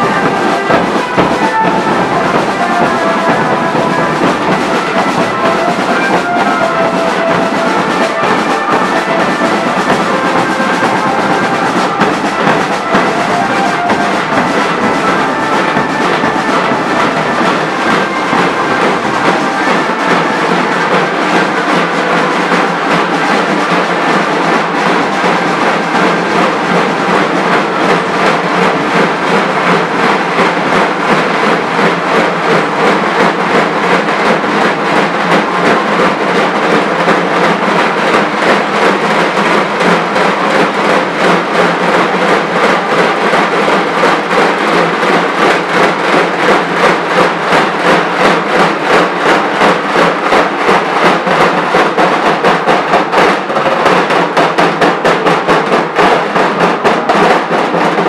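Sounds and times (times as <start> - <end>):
barrel drums beating fast: 0.0 - 58.0.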